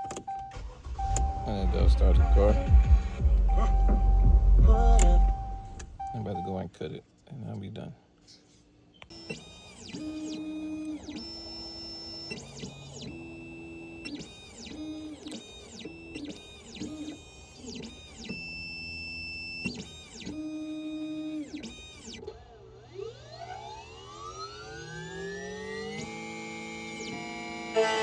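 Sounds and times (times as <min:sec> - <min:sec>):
key-cutting machine motors whining: 0:00.0 - 0:06.6, 0:09.0 - 0:28.0.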